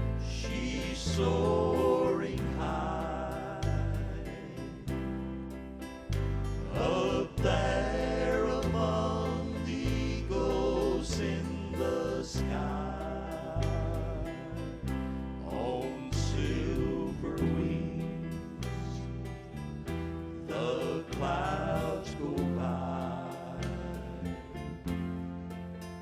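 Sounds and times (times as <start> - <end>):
bass line: 0.0 - 26.0
slow song with wavering melody: 0.0 - 26.0.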